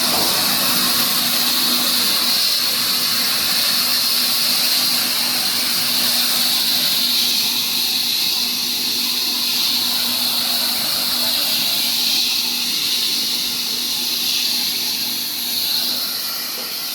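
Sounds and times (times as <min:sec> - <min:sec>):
water jets spraying: 0:00.0 - 0:16.9.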